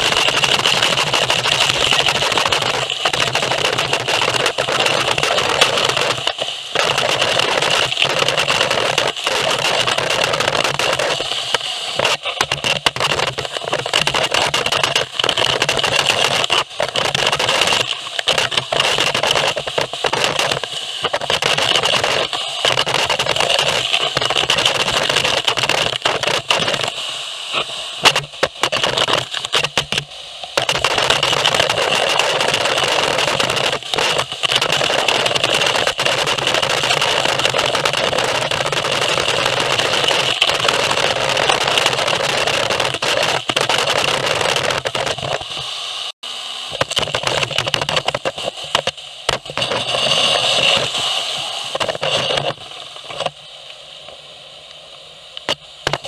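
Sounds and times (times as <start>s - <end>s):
vacuum rushing hiss and whine: 0.0s - 56.0s.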